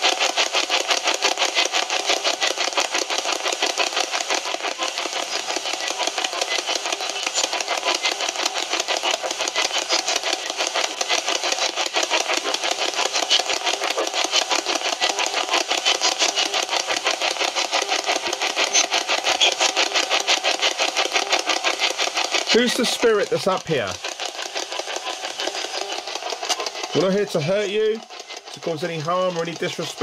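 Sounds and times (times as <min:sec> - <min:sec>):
chopped radio static: 0:00.0 - 0:30.0.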